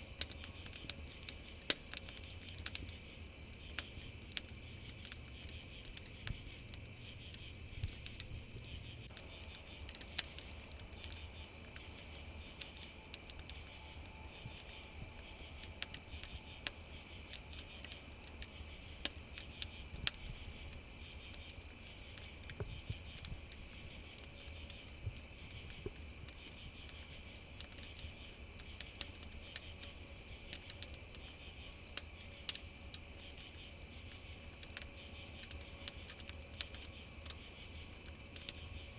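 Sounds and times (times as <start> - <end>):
campfire crackling and popping: 0.0 - 38.9
crickets chirping: 0.0 - 38.9.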